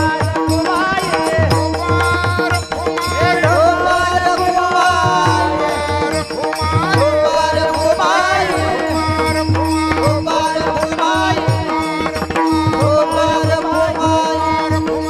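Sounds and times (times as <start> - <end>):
wordless singing: 0.0 - 15.0.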